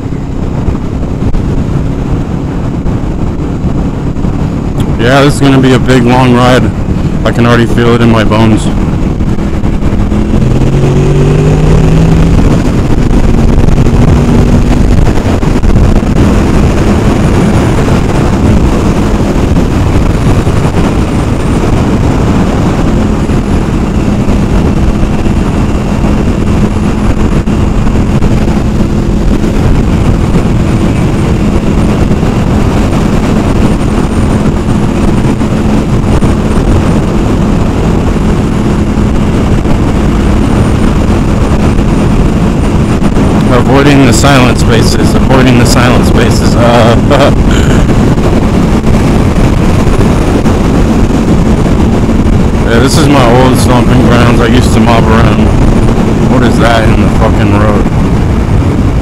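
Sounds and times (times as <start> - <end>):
motorcycle engine accelerating: 0.0 - 59.0
wind and road rush: 0.0 - 59.0.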